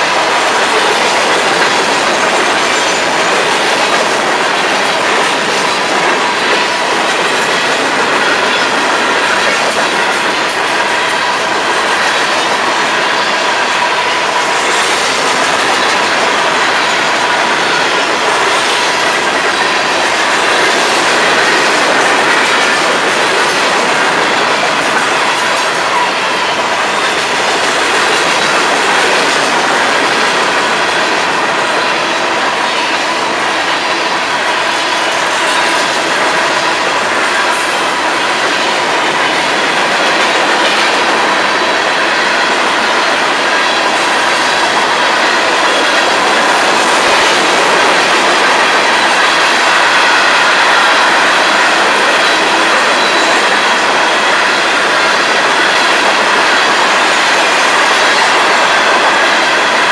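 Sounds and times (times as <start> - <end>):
freight train wheels clacking: 0.0 - 59.9.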